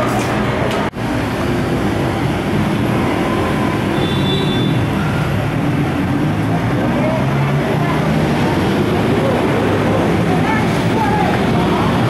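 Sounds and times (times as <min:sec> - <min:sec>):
vehicle engines humming: 0:00.0 - 0:12.0.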